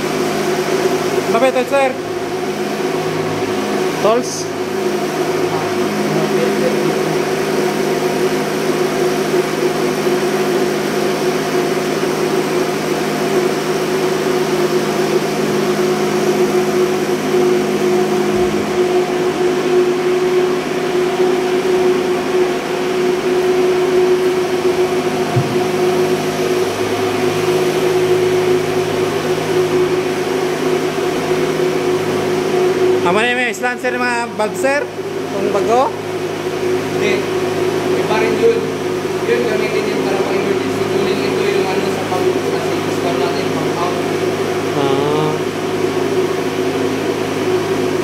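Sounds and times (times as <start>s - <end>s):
diesel machinery droning: 0.0s - 48.0s.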